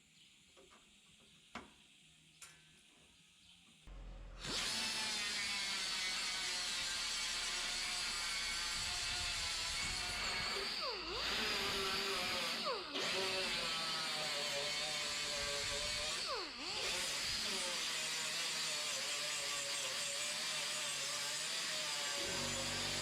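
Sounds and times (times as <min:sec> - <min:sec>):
power tool motor whining: 0:04.4 - 0:23.0.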